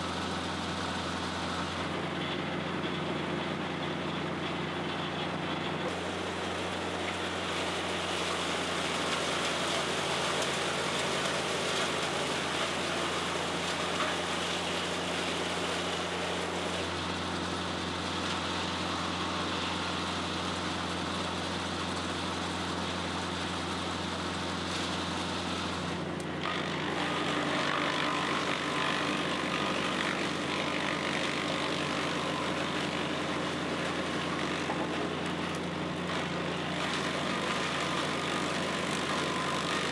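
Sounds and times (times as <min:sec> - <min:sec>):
wood chipper diesel engine running: 0:00.0 - 0:39.9.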